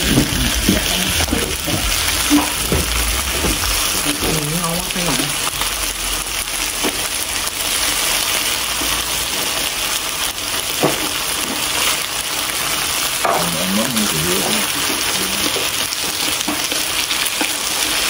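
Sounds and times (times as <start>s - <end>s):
meat sizzling in hot fat: 0.0s - 18.0s.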